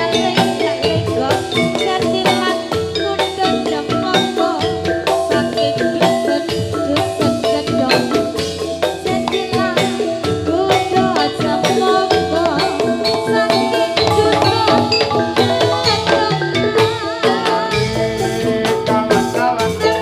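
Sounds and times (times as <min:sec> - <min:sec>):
gamelan metallophones ringing: 0:00.0 - 0:20.0
quick percussive strikes: 0:00.0 - 0:20.0.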